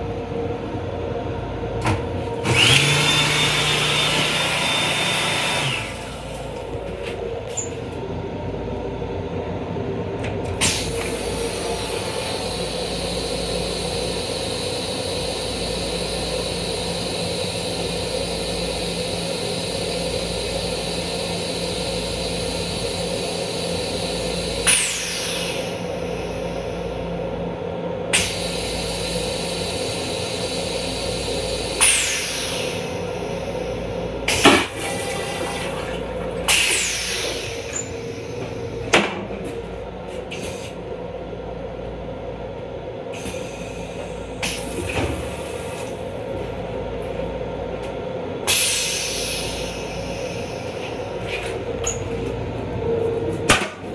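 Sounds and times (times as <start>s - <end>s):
constant hum: 0.0s - 4.6s, 5.4s - 53.9s
electric railcar running noise: 0.0s - 53.9s.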